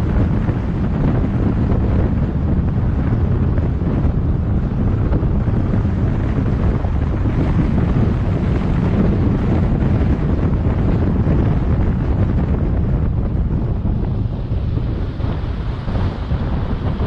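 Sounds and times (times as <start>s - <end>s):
car road noise: 0.0s - 17.0s
wind buffeting microphone: 0.0s - 17.0s.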